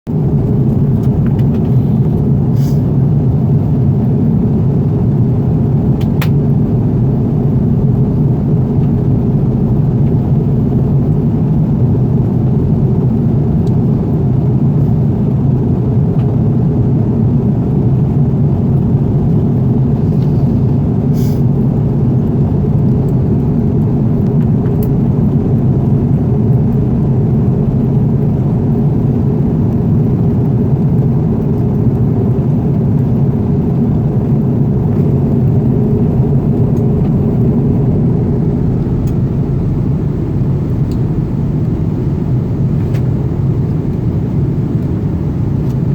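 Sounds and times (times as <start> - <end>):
airliner cabin drone: 0.1 - 45.9.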